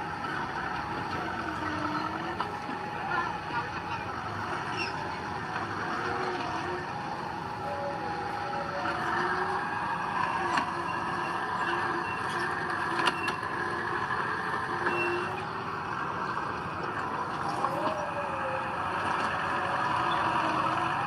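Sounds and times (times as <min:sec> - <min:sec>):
heavy machinery running: 0:00.0 - 0:21.0.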